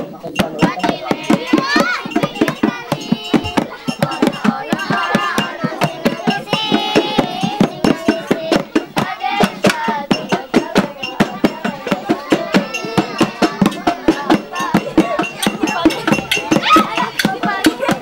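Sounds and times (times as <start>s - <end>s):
fast percussion beat: 0.0s - 18.0s
voices singing: 0.0s - 18.0s.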